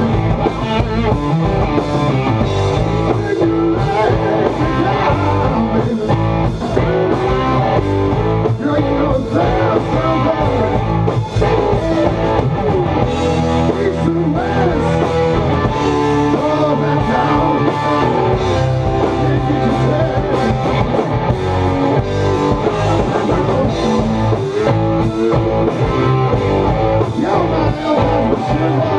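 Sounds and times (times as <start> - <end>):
drum kit: 0.0 - 28.9
electric bass: 0.0 - 28.9
electric guitars: 0.0 - 28.9.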